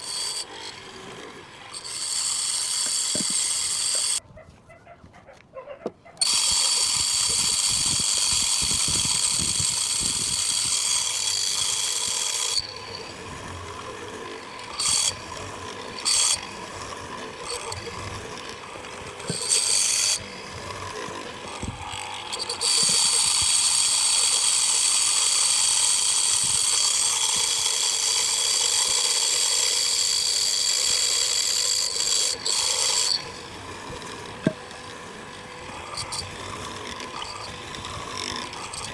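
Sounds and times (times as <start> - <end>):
power tool whining: 0.0 - 4.2, 6.2 - 38.9.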